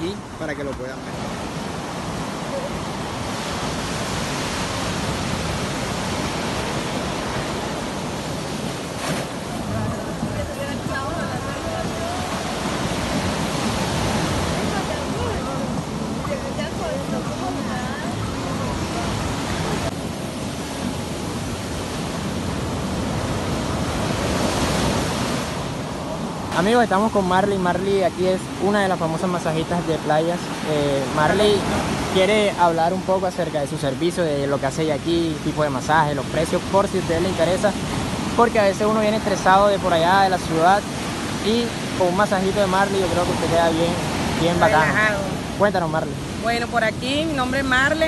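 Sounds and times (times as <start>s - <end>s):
waves breaking on beach: 0.0s - 48.0s.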